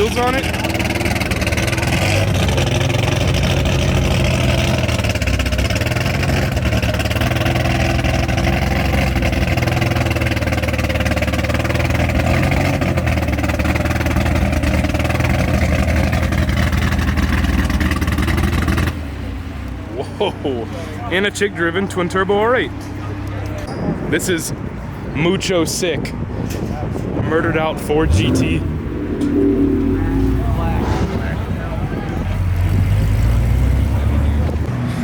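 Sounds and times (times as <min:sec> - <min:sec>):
car engine rumbling: 0:00.0 - 0:23.2, 0:27.2 - 0:35.0.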